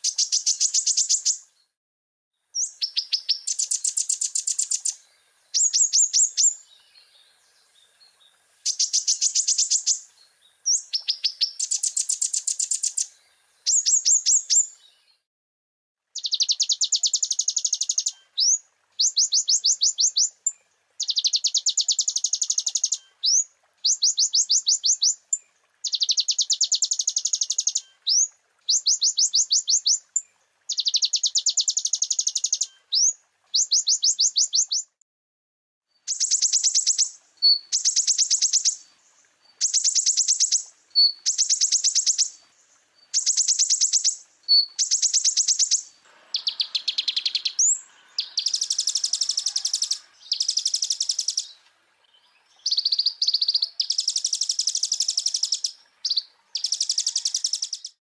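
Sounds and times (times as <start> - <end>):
sunbird trilling song: 0.0 - 1.7, 2.6 - 15.2, 16.2 - 35.0, 36.0 - 58.0.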